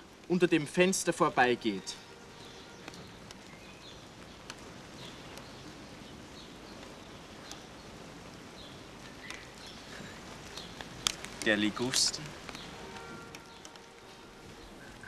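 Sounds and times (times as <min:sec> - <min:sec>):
faint outdoor background hiss: 0:00.0 - 0:15.0.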